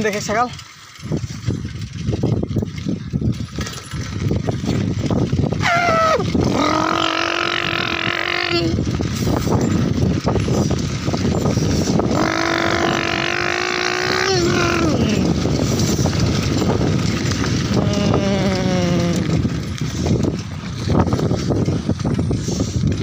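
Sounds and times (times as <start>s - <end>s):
bicycle rolling over gravel: 0.0s - 23.0s.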